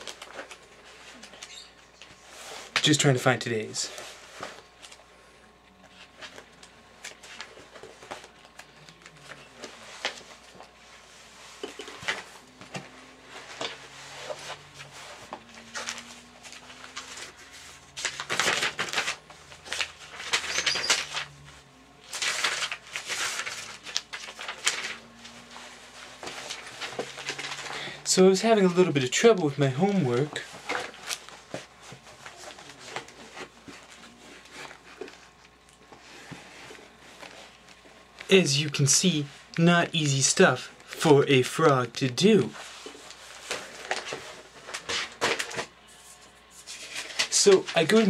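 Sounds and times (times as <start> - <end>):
papers rustling: 0.0 - 2.9, 5.9 - 27.9, 28.5 - 38.8, 40.1 - 48.0.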